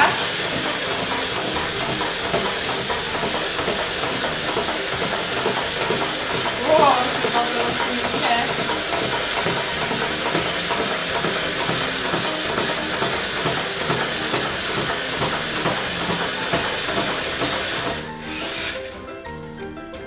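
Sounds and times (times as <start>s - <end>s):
toy motor and plastic gears running: 0.0s - 19.0s.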